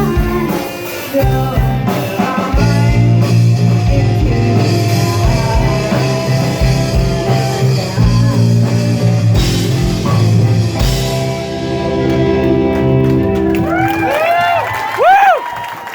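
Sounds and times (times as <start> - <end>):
rock music with singing: 0.0 - 14.2.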